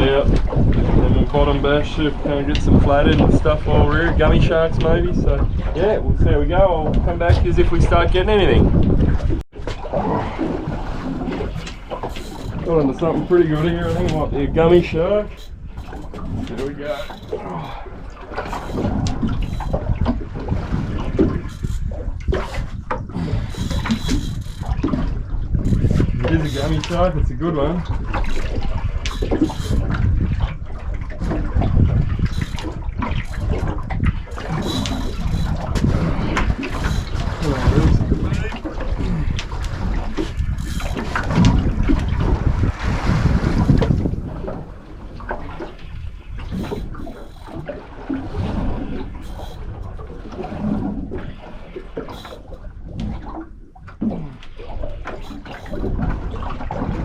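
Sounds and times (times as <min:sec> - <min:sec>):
water splashing against boat: 0:00.0 - 0:57.0.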